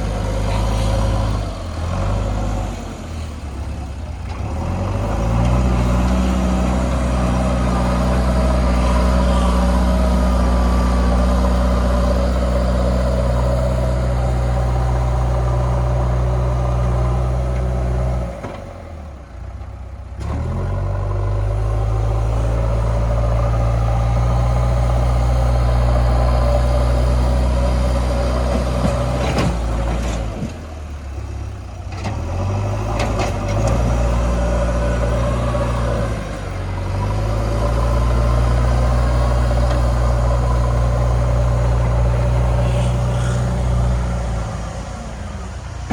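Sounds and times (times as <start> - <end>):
diesel engine running hard: 0.0 - 45.9.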